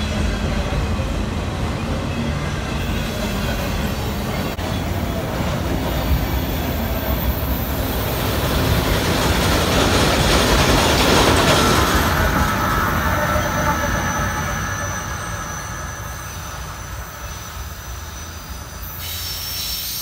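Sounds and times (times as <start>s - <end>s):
diesel locomotive: 0.0s - 20.0s
freight train rolling past: 0.0s - 20.0s
steel wheels clattering on rail: 2.8s - 20.0s.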